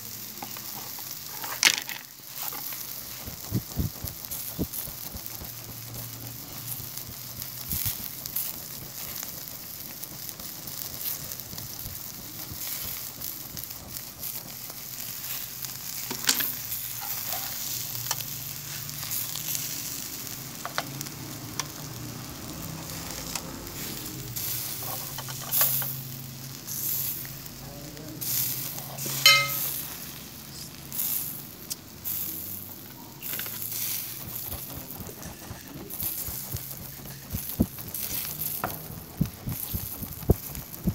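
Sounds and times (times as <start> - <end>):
meat sizzling over charcoal: 0.0 - 40.9
pops and crackles: 0.3 - 27.6, 30.5 - 40.9.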